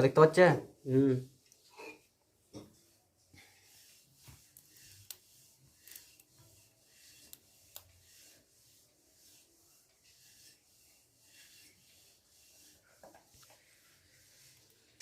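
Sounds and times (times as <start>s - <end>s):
faint rubbing: 0.3s - 15.0s.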